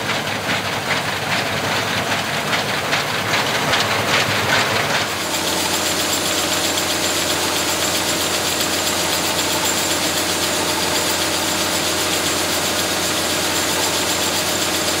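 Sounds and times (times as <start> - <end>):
combine harvester engine running: 0.0 - 15.0
unloading auger running: 0.0 - 15.0.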